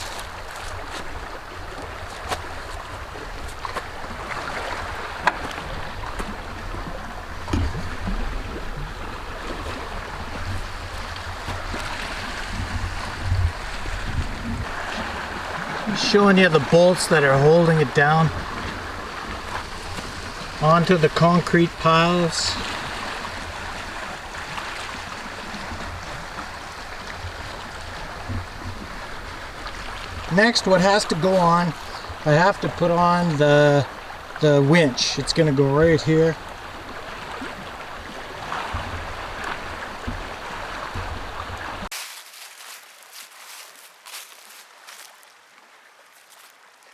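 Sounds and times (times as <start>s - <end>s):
wind buffeting microphone: 0.0s - 41.9s
water washing: 0.0s - 45.3s.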